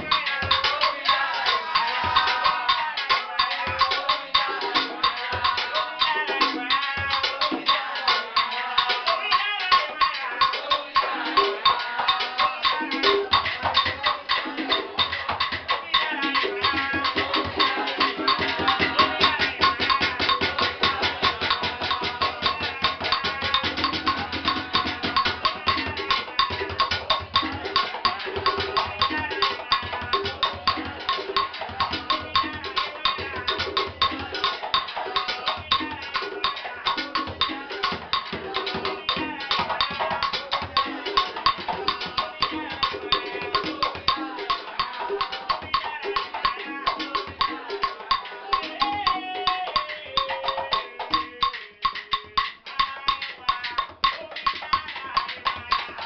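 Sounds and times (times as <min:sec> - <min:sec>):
hand drums in fast rhythm: 0:00.0 - 0:56.0.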